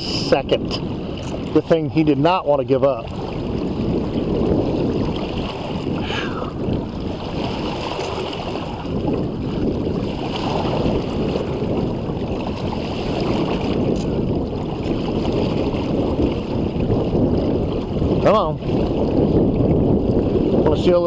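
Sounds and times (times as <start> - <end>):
water splashing and rushing: 0.0 - 21.0
wind rumbling on microphone: 0.0 - 21.0.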